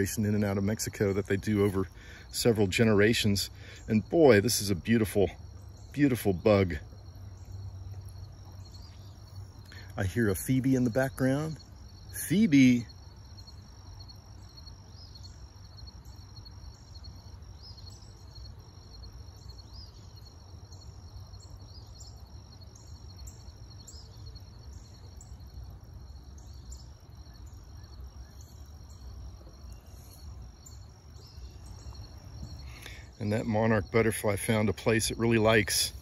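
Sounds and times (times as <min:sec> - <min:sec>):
insect trilling: 0:00.0 - 0:36.0.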